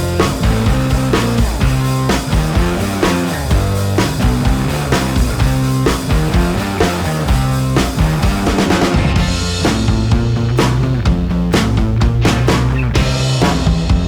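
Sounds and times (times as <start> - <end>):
guitar: 0.0 - 14.0
instrumental rock music: 0.0 - 14.0
steady drum beat: 0.0 - 14.0.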